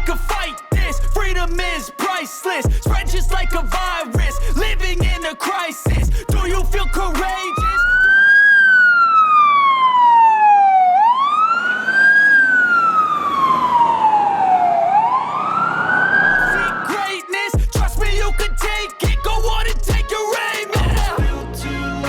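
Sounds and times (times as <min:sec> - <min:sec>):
siren wailing: 0:00.0 - 0:21.9.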